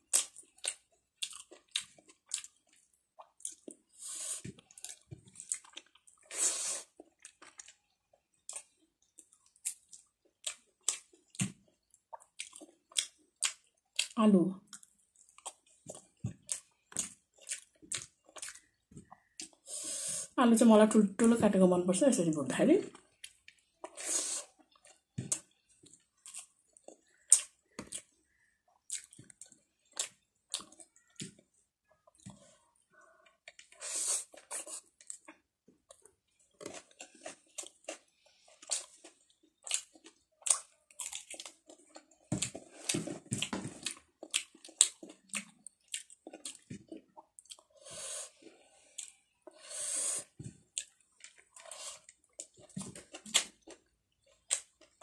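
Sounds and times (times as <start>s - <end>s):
person chewing and lip-smacking: 0.0s - 19.6s, 22.9s - 31.4s, 32.0s - 47.8s, 48.4s - 49.6s, 50.2s - 55.0s.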